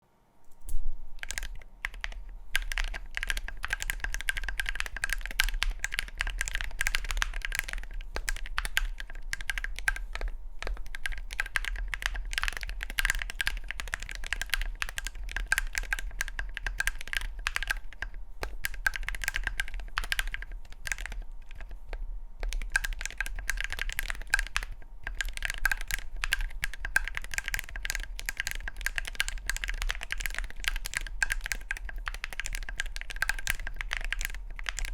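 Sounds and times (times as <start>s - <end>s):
keyboard keystroke clacks: 0.6s - 34.9s.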